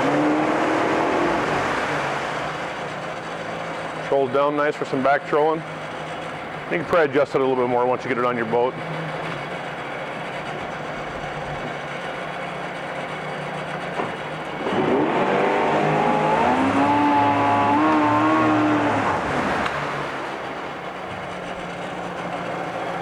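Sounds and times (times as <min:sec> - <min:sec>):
outboard motor idling and revving: 0:00.0 - 0:23.0.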